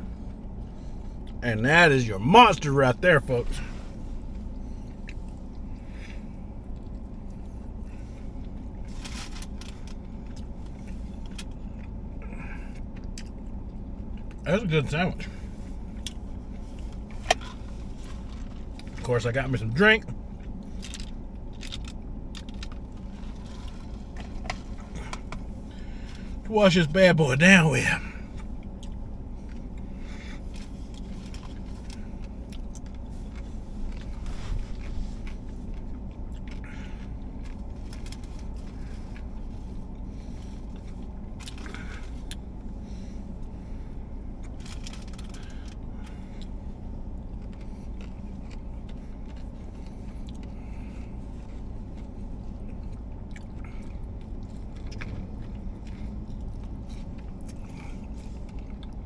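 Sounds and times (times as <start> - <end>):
steady low hum: 0.0 - 59.0
biting and chewing: 3.6 - 14.4, 20.2 - 26.4, 28.3 - 59.0.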